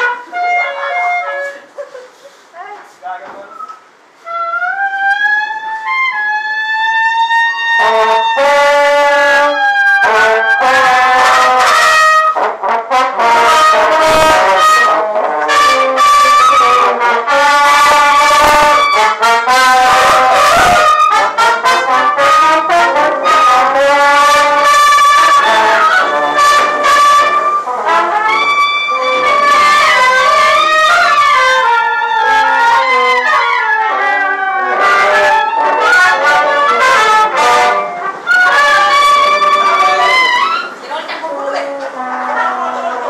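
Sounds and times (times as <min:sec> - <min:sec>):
brass ensemble playing: 0:00.0 - 0:01.9, 0:04.1 - 0:43.0
flute: 0:00.0 - 0:02.0, 0:03.5 - 0:40.9.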